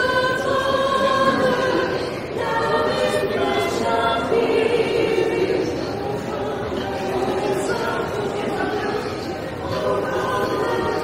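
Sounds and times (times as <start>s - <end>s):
vocal group singing in harmony: 0.0s - 11.0s.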